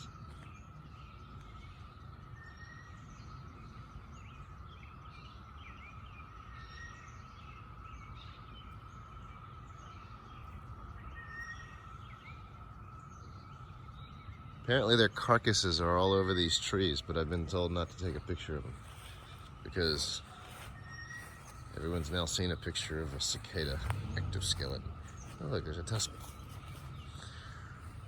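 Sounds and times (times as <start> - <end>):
birds chirping: 0.0 - 28.0
cicadas droning: 0.0 - 28.0.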